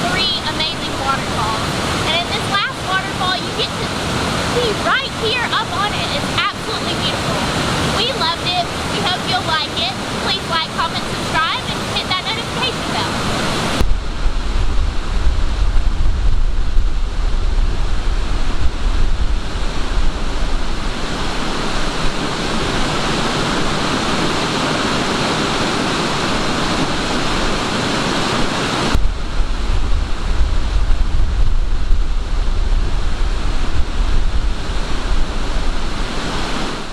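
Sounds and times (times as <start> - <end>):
waterfall rushing: 0.0 - 36.9
wind rumble on microphone: 0.0 - 36.9.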